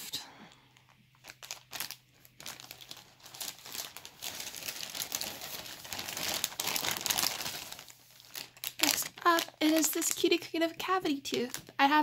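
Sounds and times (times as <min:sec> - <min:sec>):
plastic packaging crinkling: 0:00.7 - 0:12.0.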